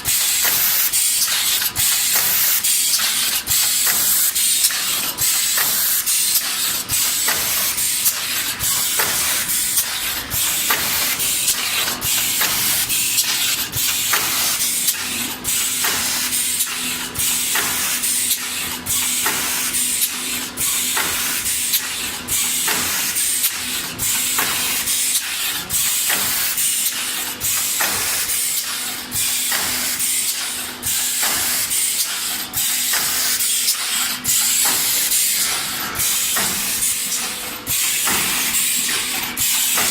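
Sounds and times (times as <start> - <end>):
machine hissing: 0.0 - 39.9.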